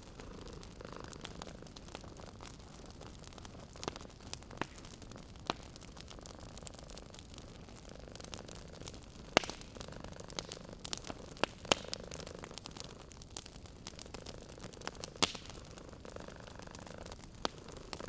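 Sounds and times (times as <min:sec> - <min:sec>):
cat purring: 0:00.0 - 0:05.0, 0:06.0 - 0:18.0
wood fire crackling and popping: 0:00.0 - 0:18.0.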